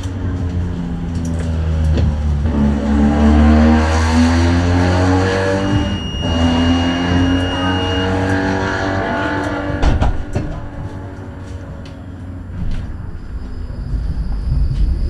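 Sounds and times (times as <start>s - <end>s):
tram motors whining: 0.0s - 15.0s.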